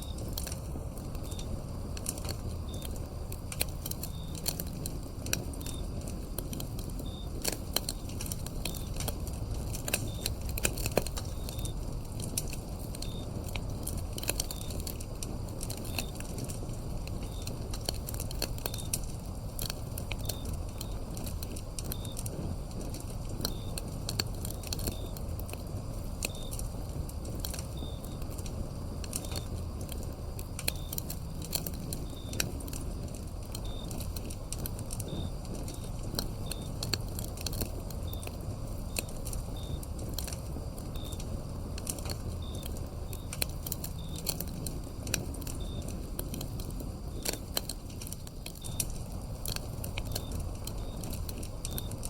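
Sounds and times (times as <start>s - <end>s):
crickets chirping: 0.0s - 52.0s
wood fire crackling and popping: 0.0s - 52.0s.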